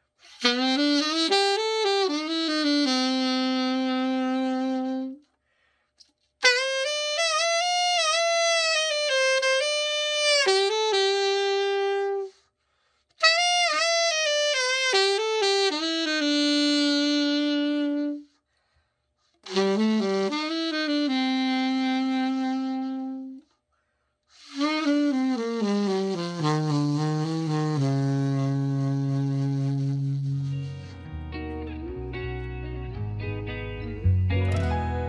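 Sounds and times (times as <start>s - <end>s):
alto saxophone melodic phrases: 0.0s - 5.4s, 6.4s - 12.5s, 13.2s - 18.4s, 19.4s - 23.6s, 24.3s - 33.0s.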